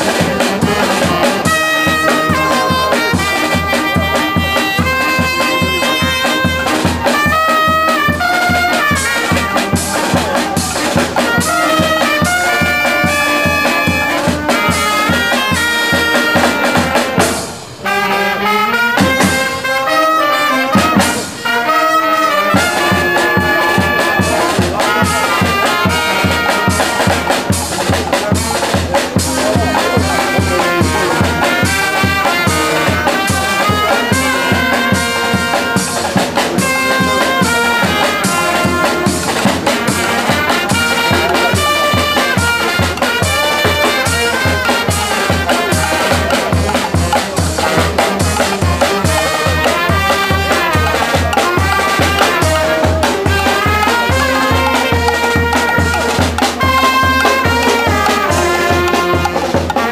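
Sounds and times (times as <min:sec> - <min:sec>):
steady drum beat: 0:00.0 - 0:18.2, 0:18.8 - 0:59.9
brass band playing: 0:00.0 - 0:59.9.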